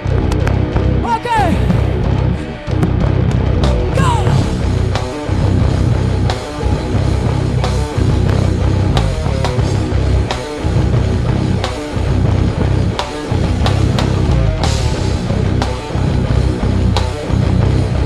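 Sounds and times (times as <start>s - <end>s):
bass guitar: 0.0s - 18.0s
distorted electric guitars: 0.0s - 18.0s
drums: 0.0s - 18.0s.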